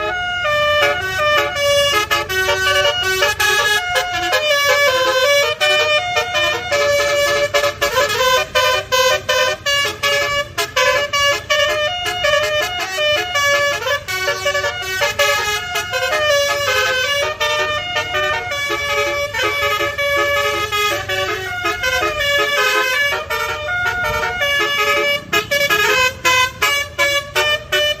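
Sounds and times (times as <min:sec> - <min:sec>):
bus air horns playing a tune: 0:00.0 - 0:28.0.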